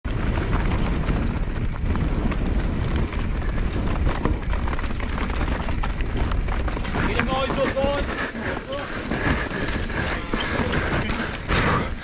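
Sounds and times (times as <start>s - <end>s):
wind on microphone: 0.0s - 12.0s
bike clicking and rattling: 0.1s - 12.0s
tyres rumbling over stones: 0.1s - 12.0s.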